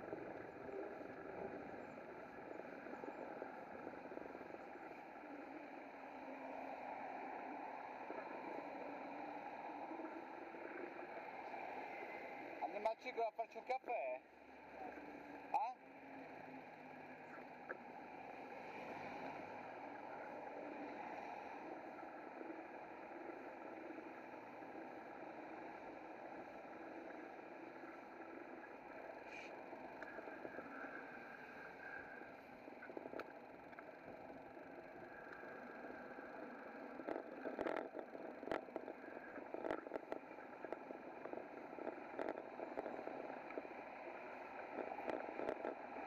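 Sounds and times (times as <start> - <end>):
bicycle rolling noise: 0.0 - 12.6, 14.3 - 46.0.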